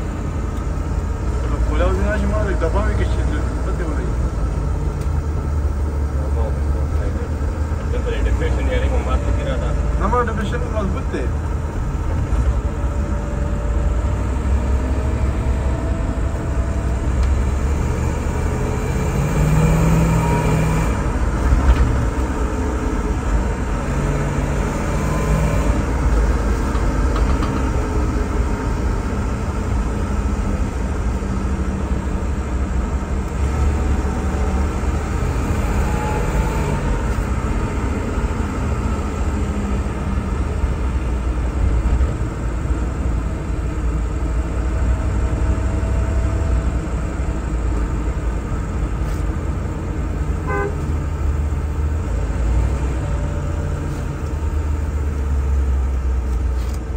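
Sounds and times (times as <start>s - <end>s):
car engine rumbling: 0.0s - 56.9s.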